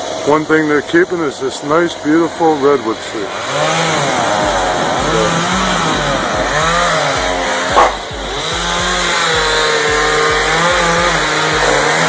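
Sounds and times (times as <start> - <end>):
chainsaw revving: 0.0 - 12.0.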